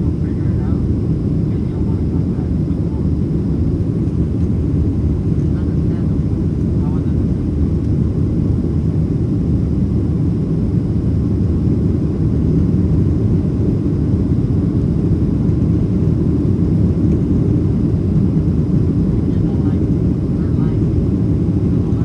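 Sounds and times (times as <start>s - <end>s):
jet engine low rumble: 0.0s - 22.0s.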